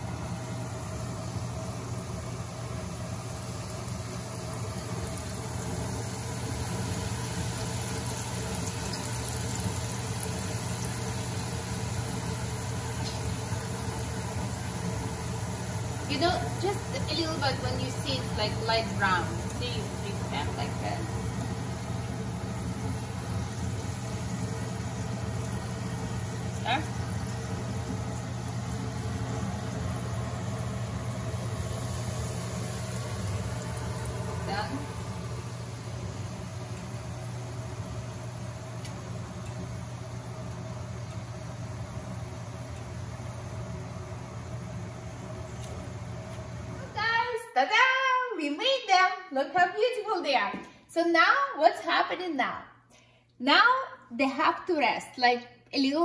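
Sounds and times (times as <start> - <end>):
dough sizzling in hot oil: 0.0 - 47.1
steady low hum: 0.0 - 47.5.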